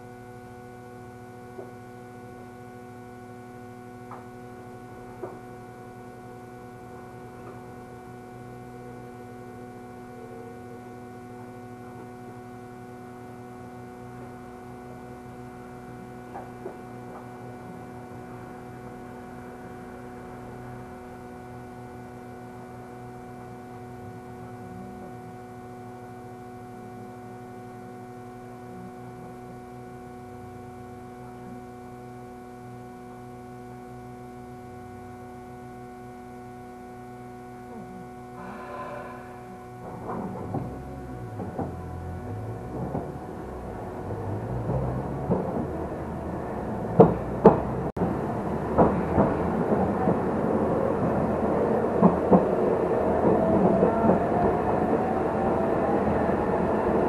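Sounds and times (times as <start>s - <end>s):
tram electrical hum: 0.0s - 57.0s.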